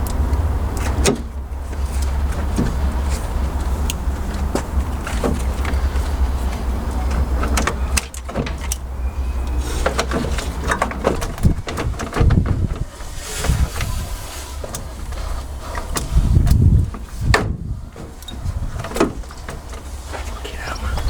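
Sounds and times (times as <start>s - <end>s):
clicks and clunks of car parts: 0.8s - 13.9s, 14.6s - 20.4s.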